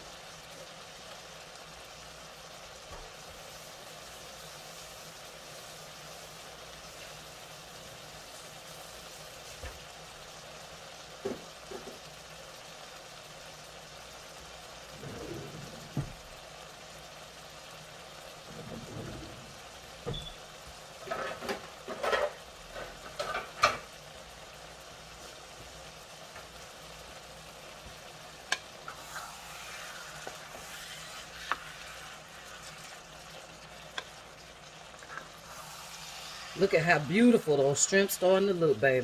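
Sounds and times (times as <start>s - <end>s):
food sizzling in a skillet: 0.0s - 39.0s.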